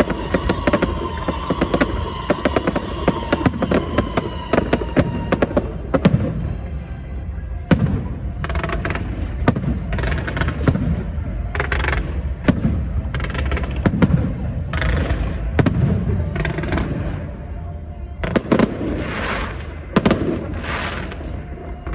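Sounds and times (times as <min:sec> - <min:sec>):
firework bangs: 0:00.0 - 0:06.6, 0:07.7 - 0:17.4, 0:18.2 - 0:21.9
firework crackling: 0:00.0 - 0:06.9, 0:07.6 - 0:21.9.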